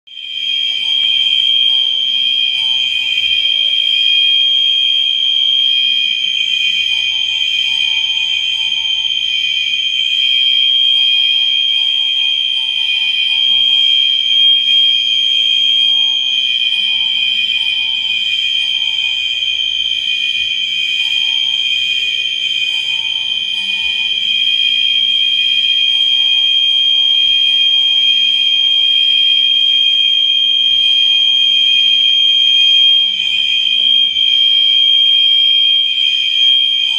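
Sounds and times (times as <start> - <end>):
fainter lower alarm tone: 0.1 - 36.9
high-pitched fire alarm horns: 0.1 - 36.9.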